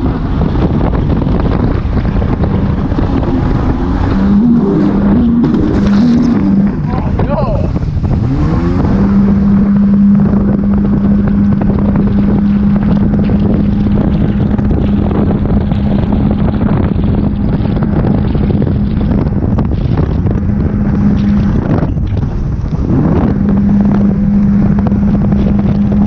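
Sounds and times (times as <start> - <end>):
jet ski engine drone: 0.0 - 26.0
wind buffeting microphone: 0.0 - 26.0.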